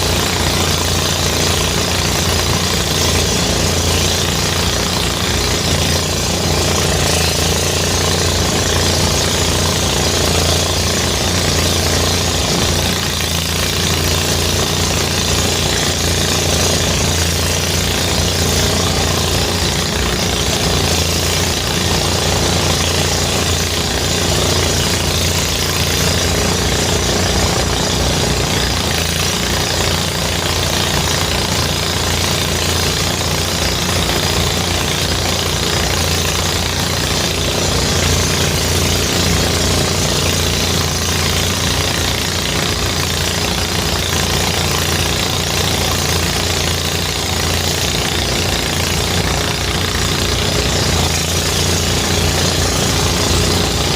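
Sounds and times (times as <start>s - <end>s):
threshing machine engine running: 0.0s - 53.9s.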